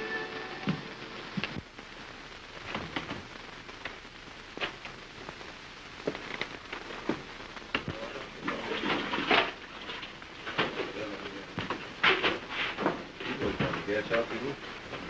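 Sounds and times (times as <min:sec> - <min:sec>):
film soundtrack hiss: 0:00.0 - 0:15.0
clicks and crackles: 0:01.2 - 0:15.0.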